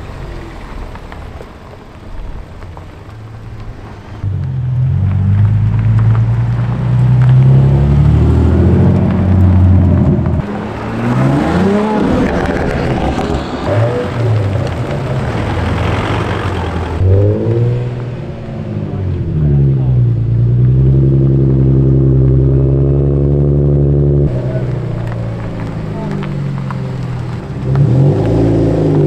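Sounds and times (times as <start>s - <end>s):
car engines revving: 0.0s - 29.0s
deep steady engine and exhaust: 0.0s - 29.0s.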